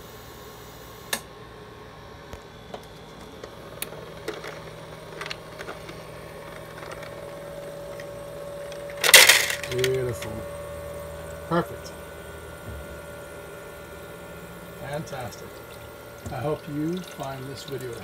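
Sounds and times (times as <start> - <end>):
ice maker humming: 0.0 - 18.0
steady machine tone: 0.0 - 18.0.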